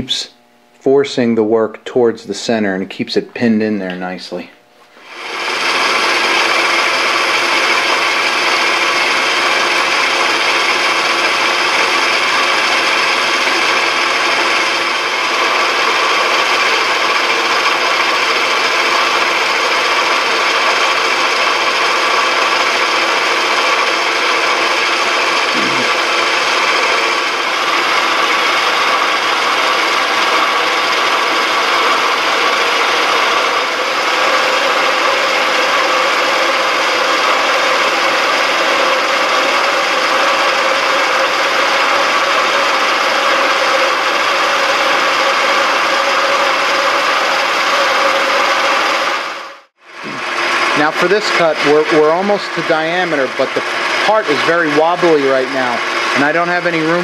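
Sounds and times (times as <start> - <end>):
lathe cutting metal: 5.0 - 57.0.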